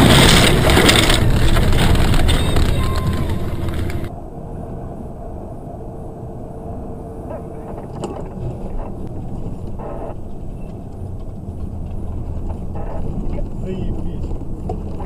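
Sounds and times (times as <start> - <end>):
road and engine rumble in cabin: 0.0 - 4.1, 6.6 - 15.0.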